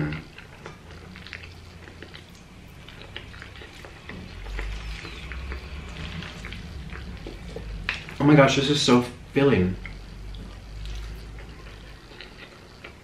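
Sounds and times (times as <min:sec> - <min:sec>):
wet chewing smacks: 0:00.0 - 0:08.3, 0:09.8 - 0:13.0
low steady hum: 0:00.0 - 0:13.0.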